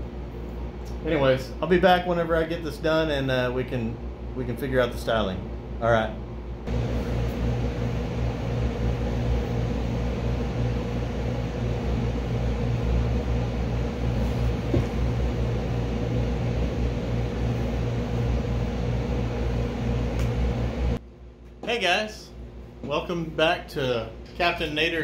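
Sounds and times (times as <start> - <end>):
low rumble and hum: 0.0 - 21.6.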